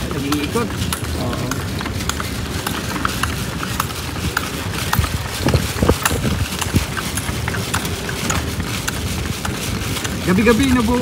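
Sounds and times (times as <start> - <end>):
heavy thumps over bumps: 0.0 - 11.0
vehicle rumbling on road: 0.0 - 11.0.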